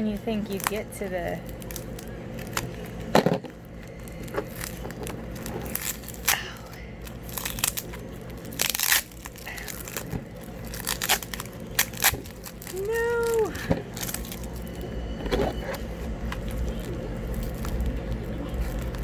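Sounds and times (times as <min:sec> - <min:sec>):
packing material crinkling: 0:00.0 - 0:19.0
packing material ripping: 0:00.1 - 0:19.0.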